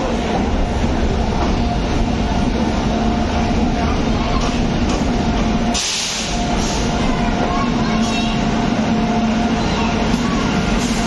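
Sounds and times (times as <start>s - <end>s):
electric locomotive hum: 0.0s - 11.0s
train rumble: 0.0s - 11.0s.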